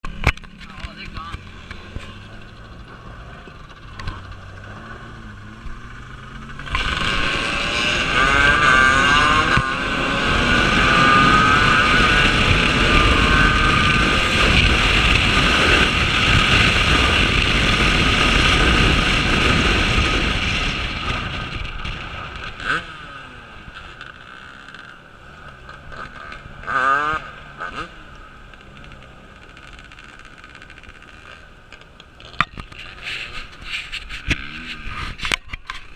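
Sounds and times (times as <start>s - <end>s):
off-road engines revving: 0.0s - 35.9s.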